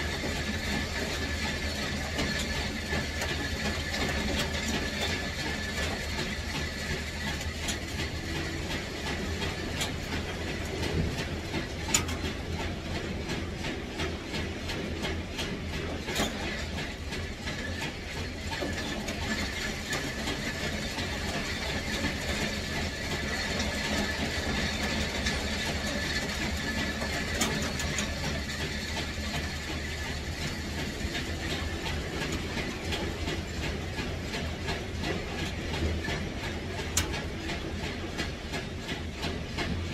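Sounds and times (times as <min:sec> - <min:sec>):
mechanical running noise: 0:00.0 - 0:39.9.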